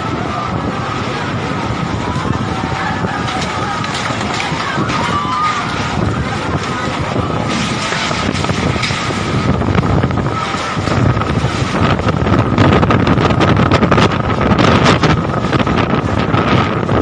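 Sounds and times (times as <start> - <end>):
strong wind gusting on microphone: 0.0 - 17.0.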